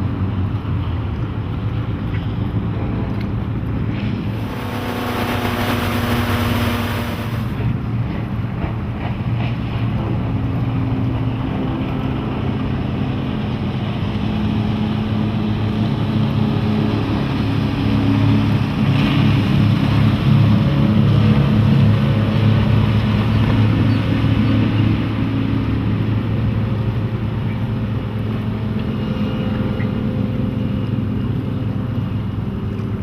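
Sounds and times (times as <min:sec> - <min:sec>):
boat engine drone: 0:00.0 - 0:33.0
wind and water rush: 0:00.0 - 0:33.0.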